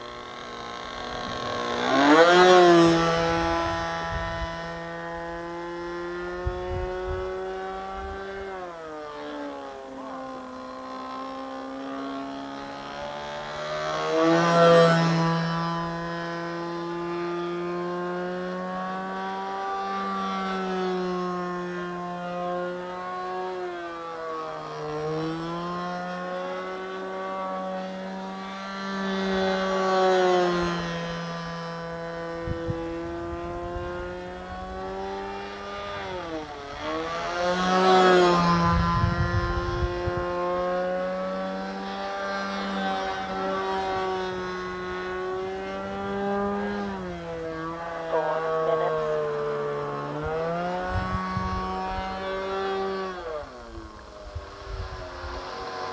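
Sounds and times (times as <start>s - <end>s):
model airplane engine: 0.0s - 55.9s.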